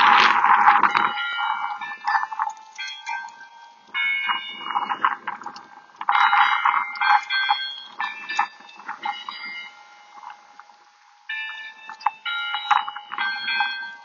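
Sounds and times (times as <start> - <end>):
bells ringing: 0.0 - 14.0.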